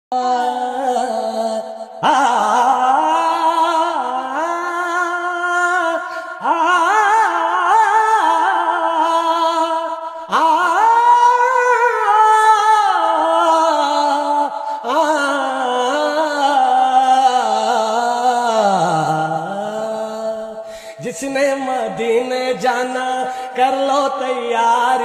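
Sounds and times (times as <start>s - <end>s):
man singing unaccompanied: 0.1s - 25.0s.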